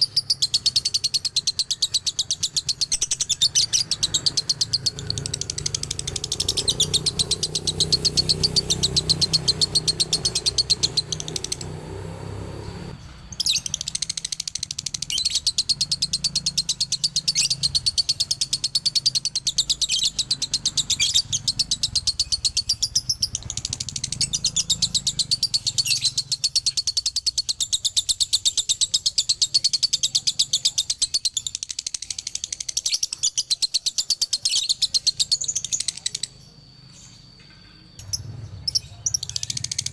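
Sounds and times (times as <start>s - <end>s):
lovebird rapid chirping chatter: 0.0s - 39.9s.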